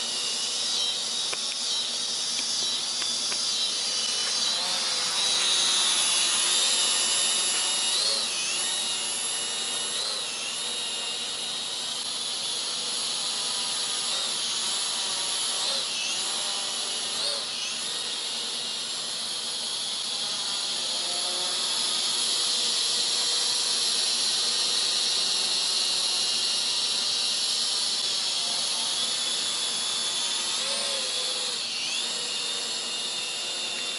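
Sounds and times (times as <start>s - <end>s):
drone propellers whining: 0.0s - 33.9s.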